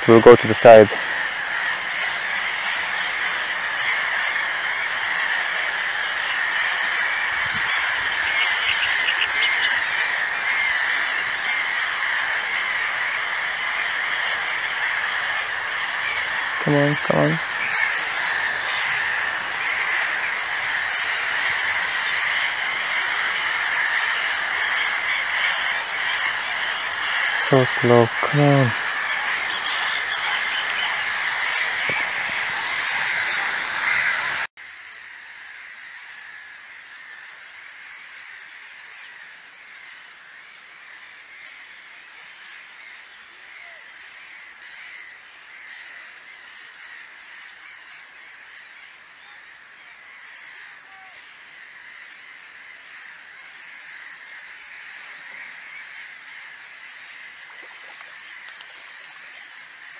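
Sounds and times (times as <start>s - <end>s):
distant animal calls: 0.0s - 59.9s.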